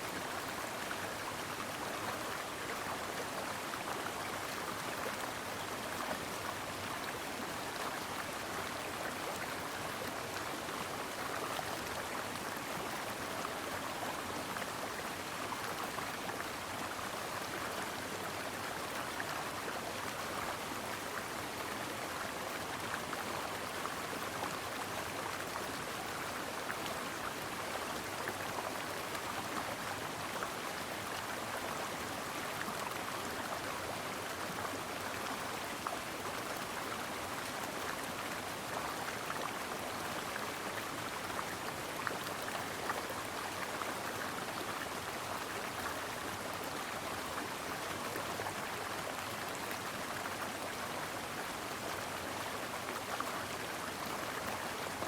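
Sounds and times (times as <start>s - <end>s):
brook water running over stones: 0.0s - 55.0s.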